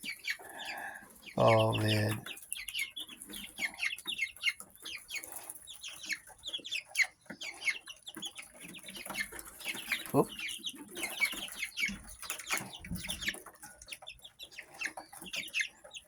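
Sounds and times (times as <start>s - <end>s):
baby chicks peeping: 0.0s - 16.0s.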